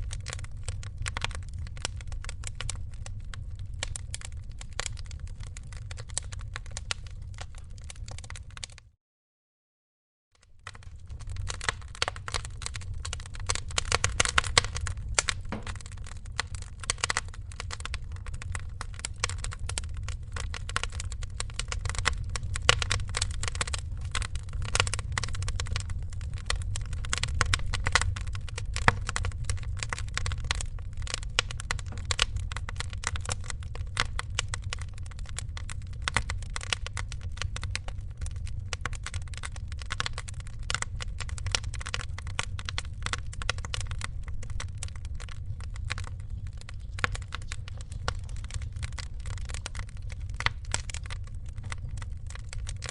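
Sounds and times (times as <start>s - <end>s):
low rush of flames: 0.0s - 8.8s, 10.6s - 52.9s
wood fire crackling: 0.0s - 8.8s, 10.4s - 52.9s.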